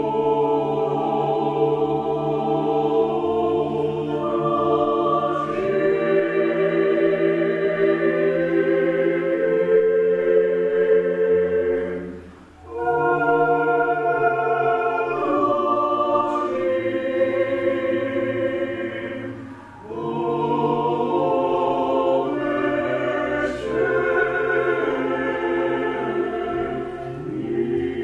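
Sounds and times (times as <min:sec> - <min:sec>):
choir singing chant: 0:00.0 - 0:28.0.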